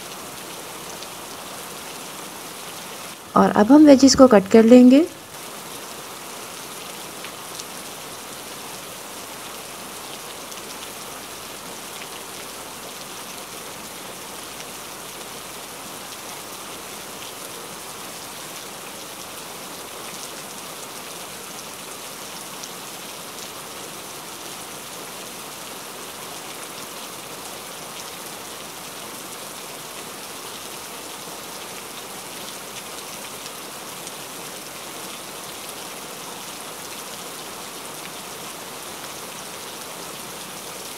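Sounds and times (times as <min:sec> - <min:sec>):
steady rain-like hiss: 0:00.0 - 0:40.9.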